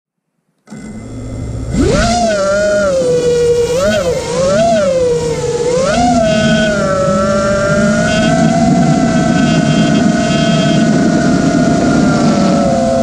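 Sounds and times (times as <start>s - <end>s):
quadcopter motors whining: 0.7s - 13.0s.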